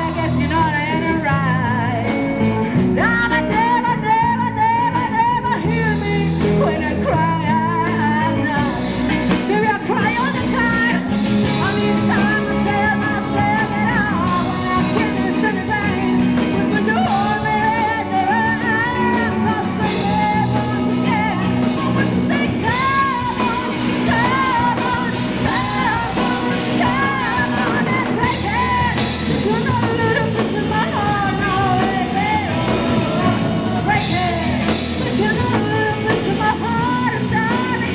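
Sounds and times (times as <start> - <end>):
drum kit: 0.0 - 37.9
electric guitars: 0.0 - 37.9
women singing into microphones: 0.0 - 37.9.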